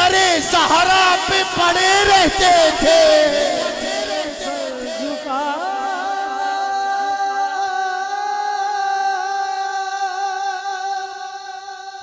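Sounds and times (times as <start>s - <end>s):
men singing a cappella: 1.3s - 12.0s.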